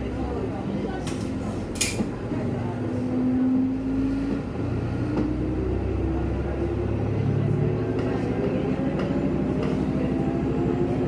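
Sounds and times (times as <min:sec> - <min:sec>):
diesel railcar engine rumble: 0:00.0 - 0:11.0.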